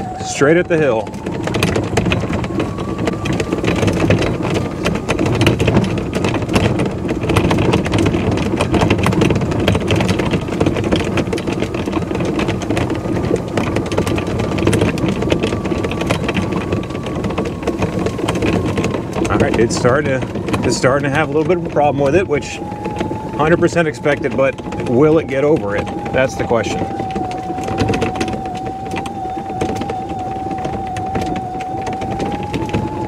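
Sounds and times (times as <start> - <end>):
electric motor whine: 0.0 - 33.0
golf cart rumble: 0.0 - 33.0
rattle of loose body hardware: 0.0 - 33.0.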